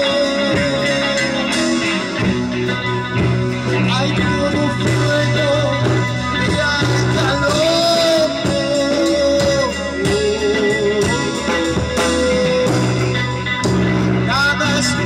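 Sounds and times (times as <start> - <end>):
bending guitar melody line: 0.0 - 15.0
rock band playing: 0.0 - 15.0.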